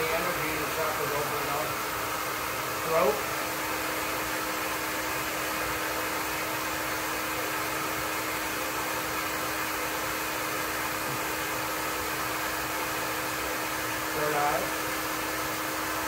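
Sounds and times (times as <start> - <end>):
constant motor hum: 0.0 - 16.0
hot-air blower rushing air: 0.0 - 16.0.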